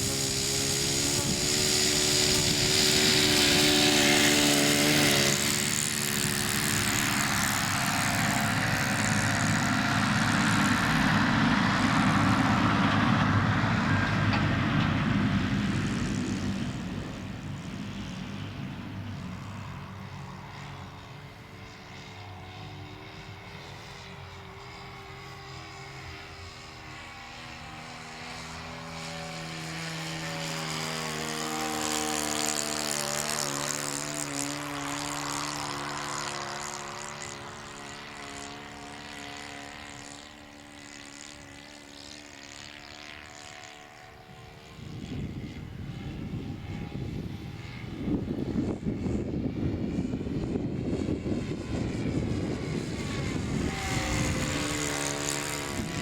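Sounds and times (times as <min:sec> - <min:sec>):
model plane engine buzzing: 0:00.0 - 0:56.0.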